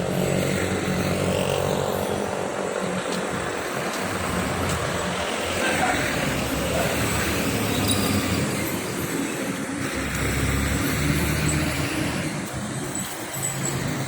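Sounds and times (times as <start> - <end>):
road traffic noise: 0.0 - 14.0
vehicle engine running nearby: 0.0 - 14.0.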